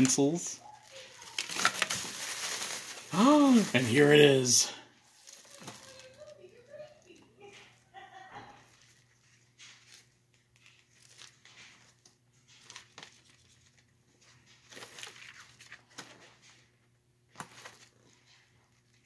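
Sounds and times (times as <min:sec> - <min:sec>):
paper rustling: 0:00.0 - 0:04.5, 0:05.1 - 0:07.0, 0:08.6 - 0:16.7, 0:17.3 - 0:19.0.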